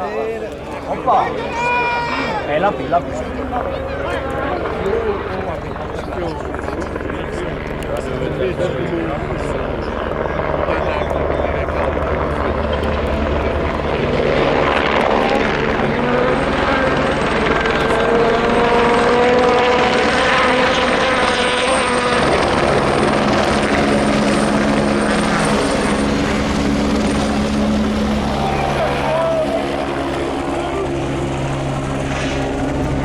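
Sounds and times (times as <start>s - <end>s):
helicopter rotor chop: 0.0s - 33.0s.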